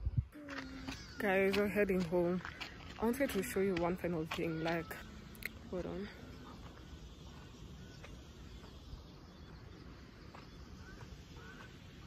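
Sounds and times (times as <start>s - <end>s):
faint bird chirps: 0.1s - 2.0s, 4.2s - 12.0s.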